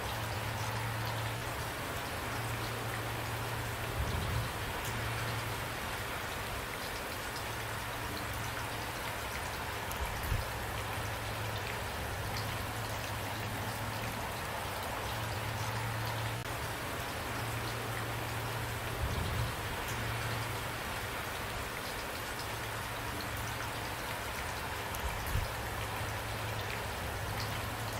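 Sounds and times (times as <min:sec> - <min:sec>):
steady rain hiss: 0:00.0 - 0:27.9.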